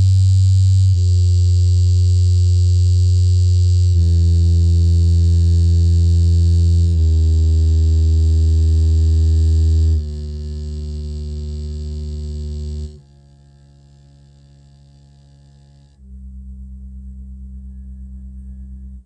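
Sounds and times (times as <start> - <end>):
low bass test tone: 0.0 - 19.0.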